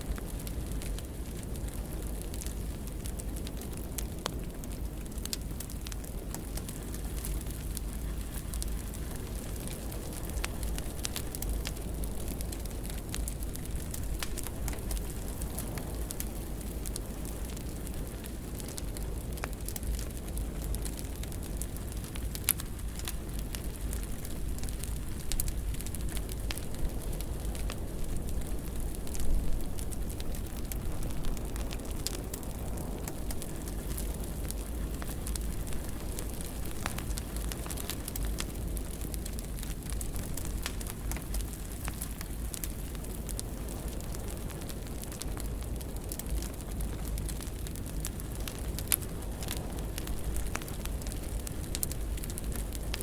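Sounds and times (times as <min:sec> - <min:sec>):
fire crackling in a fireplace: 0:00.0 - 0:53.0.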